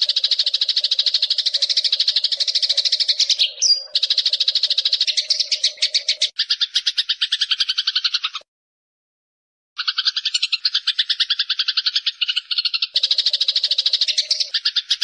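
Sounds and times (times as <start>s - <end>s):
sparrow chirping: 0.0s - 8.4s, 9.8s - 15.0s.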